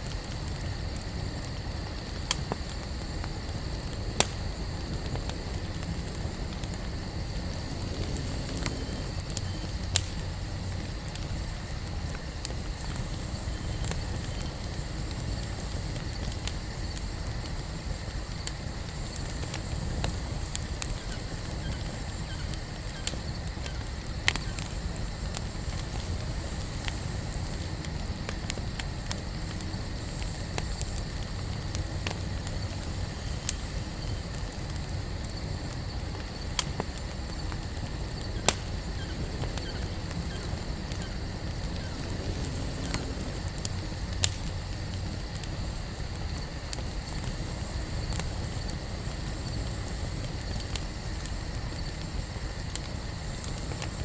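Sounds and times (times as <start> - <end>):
campfire flames rushing: 0.0 - 54.0
wood crackling and popping: 0.0 - 54.0.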